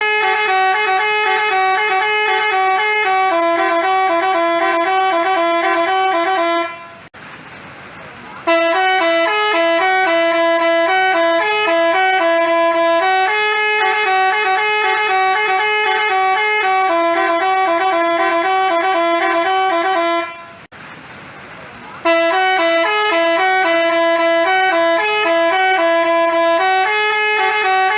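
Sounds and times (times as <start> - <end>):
multi-tone bus horn melody: 0.0 - 7.1, 8.4 - 20.7, 22.0 - 27.9.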